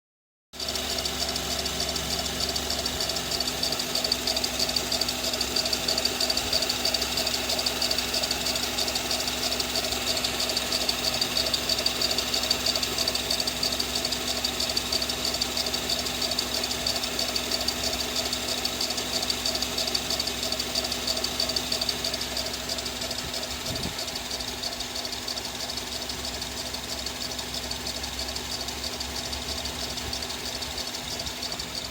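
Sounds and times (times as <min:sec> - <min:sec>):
car engine running: 0:00.6 - 0:31.9
fast mechanical chatter: 0:00.6 - 0:31.9
high-pitched belt whine: 0:00.8 - 0:31.9.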